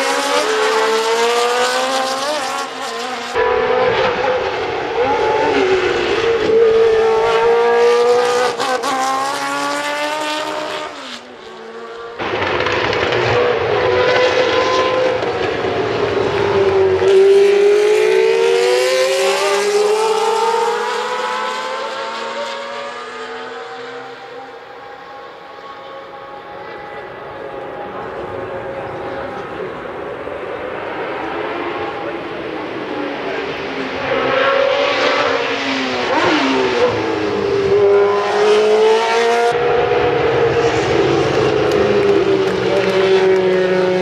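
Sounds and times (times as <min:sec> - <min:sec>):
racing cars passing: 0:00.0 - 0:44.0.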